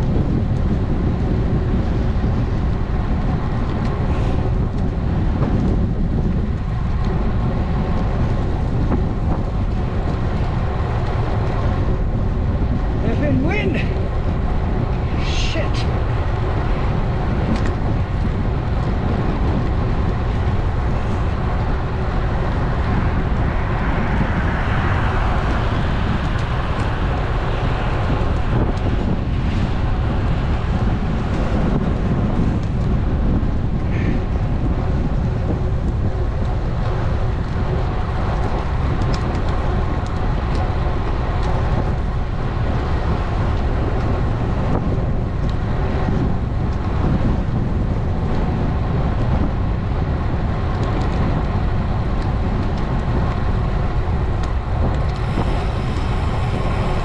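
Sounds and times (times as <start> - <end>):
tyre and road noise: 0.0 - 57.0
wind buffeting microphone: 0.0 - 57.0.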